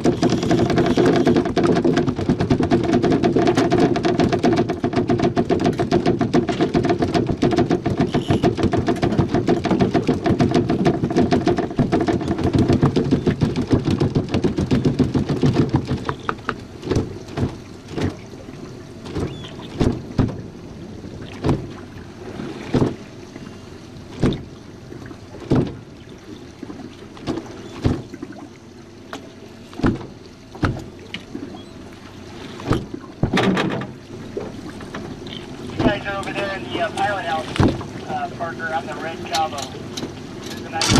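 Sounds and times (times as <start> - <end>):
outboard motor running: 0.0 - 40.9
water slapping boat hull: 0.0 - 40.9.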